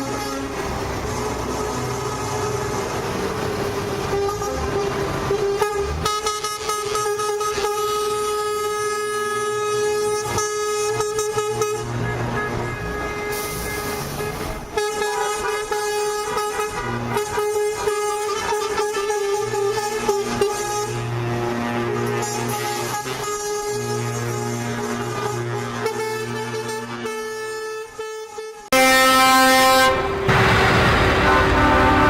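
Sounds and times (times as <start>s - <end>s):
lorry air horns blowing: 0.0s - 2.9s, 3.7s - 32.0s
truck engines rumbling: 0.0s - 32.0s.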